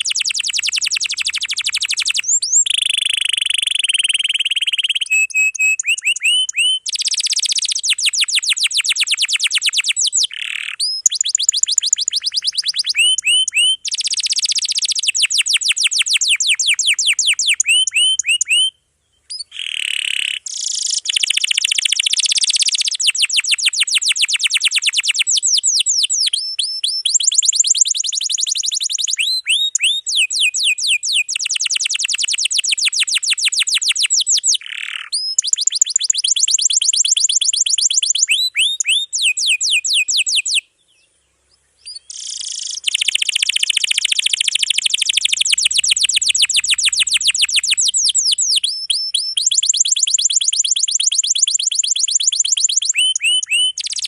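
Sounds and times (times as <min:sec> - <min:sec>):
canary trilling: 0:00.0 - 0:18.7, 0:19.3 - 0:40.6, 0:41.8 - 0:54.0.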